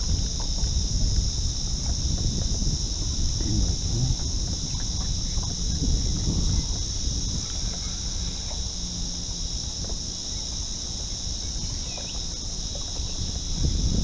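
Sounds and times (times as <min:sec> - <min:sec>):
cicadas droning: 0:00.0 - 0:14.0
wind on microphone: 0:00.0 - 0:14.0.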